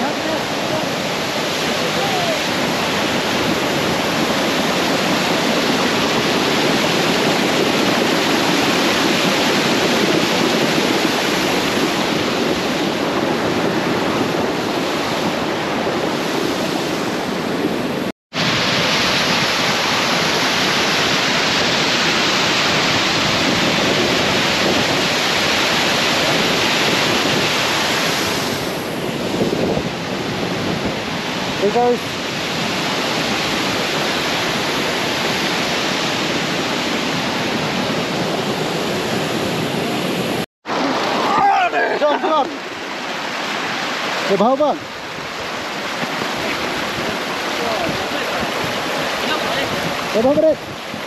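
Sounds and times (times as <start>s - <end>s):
waterfall rushing: 0.0s - 30.2s, 30.9s - 51.0s.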